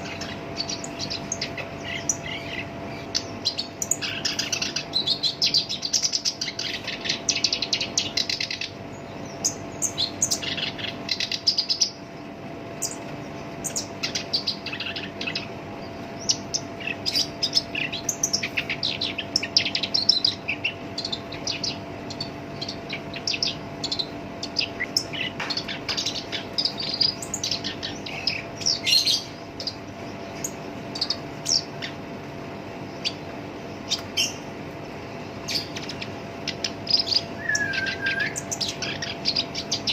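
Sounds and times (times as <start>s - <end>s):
faint steady hum: 0.0s - 39.9s
reed warbler singing: 0.0s - 39.9s.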